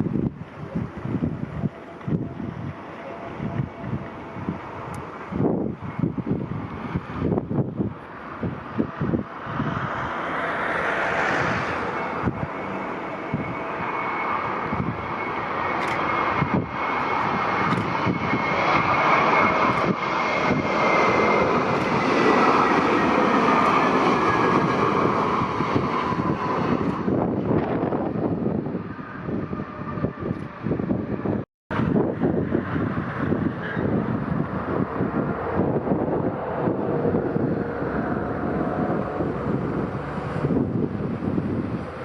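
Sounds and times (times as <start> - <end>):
jet engines whining: 0.0 - 42.0.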